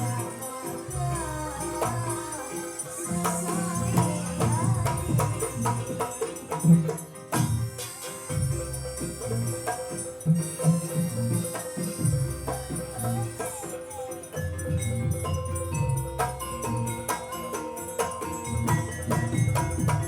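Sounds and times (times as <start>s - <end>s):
drum strokes: 0.0s - 20.0s
low held tone: 0.0s - 20.0s
wavering melody: 0.0s - 20.0s.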